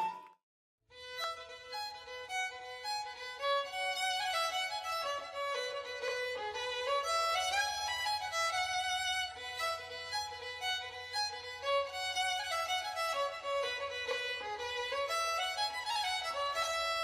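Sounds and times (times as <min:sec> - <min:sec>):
violin melody: 0:00.0 - 0:00.3, 0:00.9 - 0:17.0.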